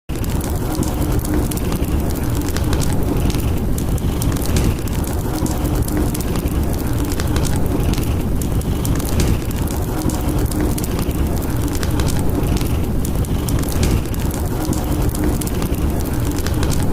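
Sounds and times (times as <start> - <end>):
fireplace crackling: 0.1 - 16.9
low rumble of storm wind: 0.1 - 16.9.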